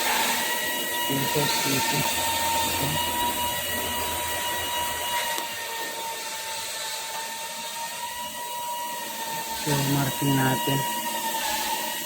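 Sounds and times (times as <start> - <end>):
machine tool motor whining: 0.0 - 12.0.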